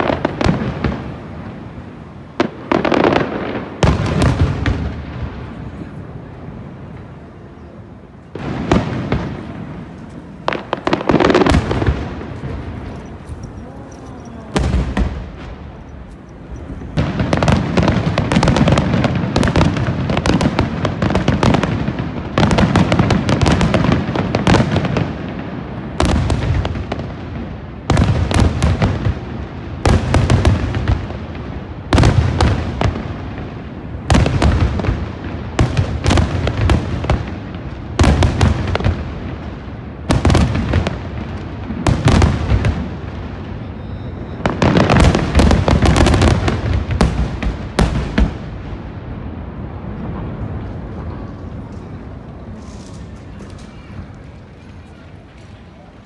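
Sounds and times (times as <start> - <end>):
fireworks bursting: 0.0 - 55.7.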